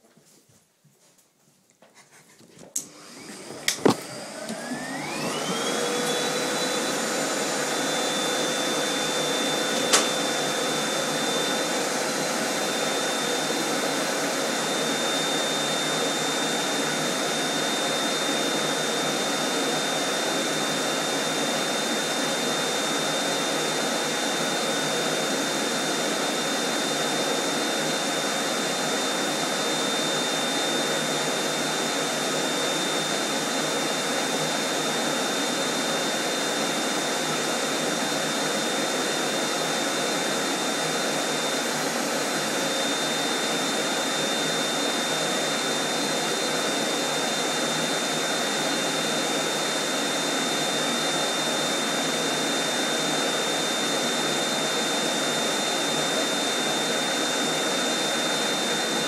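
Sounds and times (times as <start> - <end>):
vacuum cleaner motor running: 2.7 - 59.0.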